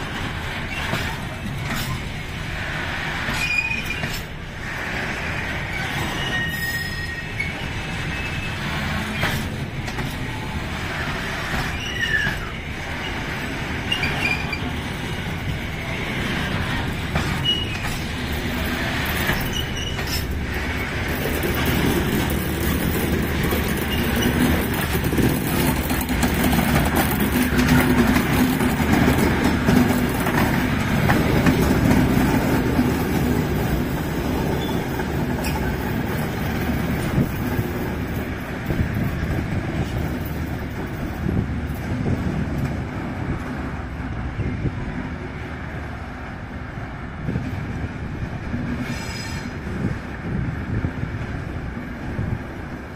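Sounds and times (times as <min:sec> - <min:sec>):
diesel locomotive engine: 0:00.0 - 0:52.9
train wheels rumbling over rails: 0:00.0 - 0:52.9.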